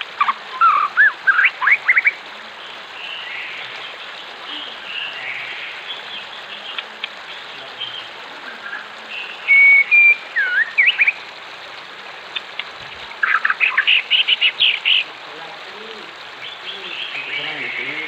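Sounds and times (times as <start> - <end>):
running water rushing: 0.0 - 18.0
wild birds singing: 0.0 - 18.0.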